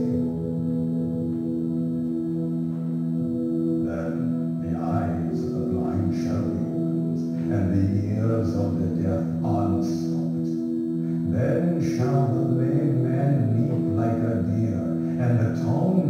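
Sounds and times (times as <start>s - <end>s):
musical drone: 0.0s - 16.0s.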